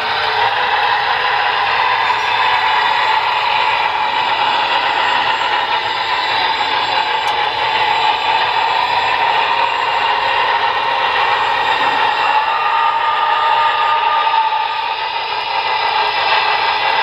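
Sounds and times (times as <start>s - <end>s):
model train running noise: 0.0s - 17.0s.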